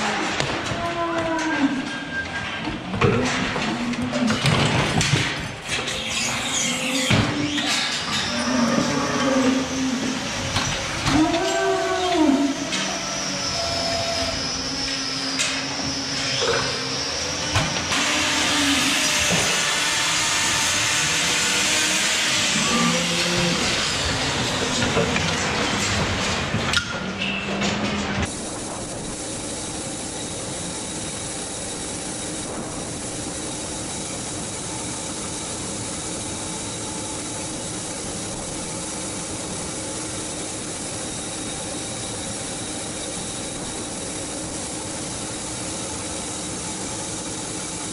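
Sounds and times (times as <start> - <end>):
machinery hum with tones: 0.0 - 47.9.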